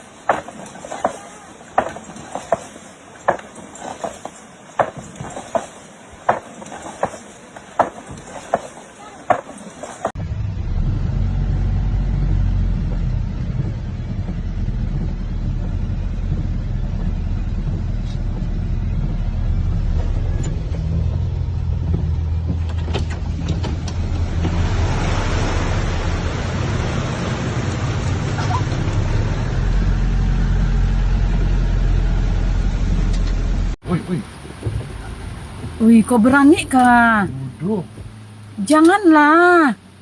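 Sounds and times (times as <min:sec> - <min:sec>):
floodwater rushing: 0:00.0 - 0:10.2, 0:11.2 - 0:32.6, 0:33.8 - 0:40.0
vehicle engine rumbling: 0:00.0 - 0:40.0.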